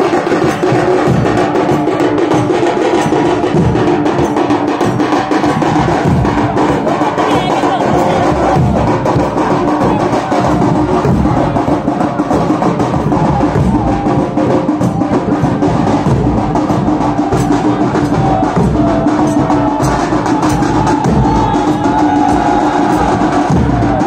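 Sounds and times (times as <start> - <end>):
fast live drumming: 0.0 - 24.0.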